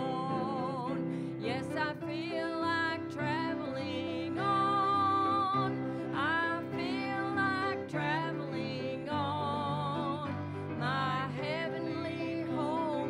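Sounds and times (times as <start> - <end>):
instrumental accompaniment: 0.0 - 13.0
woman singing with vibrato: 0.0 - 13.0.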